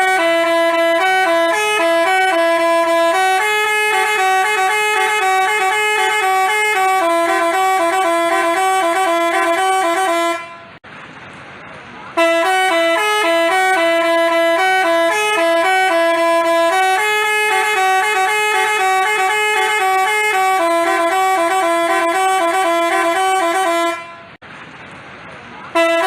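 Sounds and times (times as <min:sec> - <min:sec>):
multi-tone bus horn tune: 0:00.0 - 0:10.8, 0:12.1 - 0:24.4, 0:25.7 - 0:26.0.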